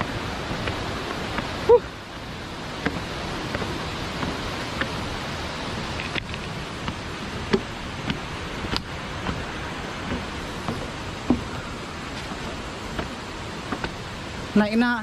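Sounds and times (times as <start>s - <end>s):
footsteps on wooden boardwalk: 0.0s - 14.5s
waterfall rushing: 0.0s - 15.0s.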